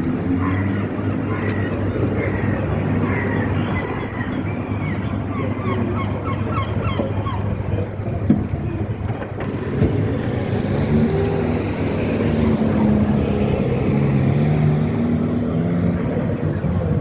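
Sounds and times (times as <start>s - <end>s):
road traffic: 0.0s - 17.0s
vehicle engine humming: 0.0s - 17.0s.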